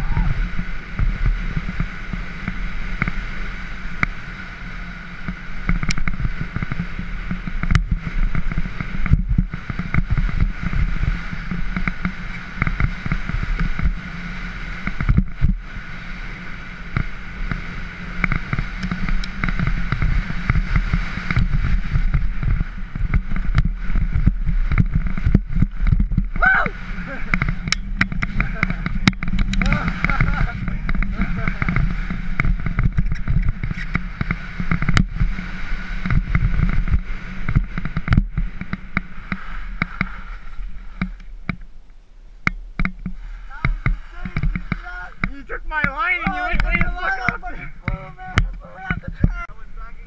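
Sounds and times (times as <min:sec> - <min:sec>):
bike rattling over gravel: 0:00.0 - 0:41.8, 0:42.6 - 0:50.0
wind buffeting camera: 0:00.0 - 0:50.0.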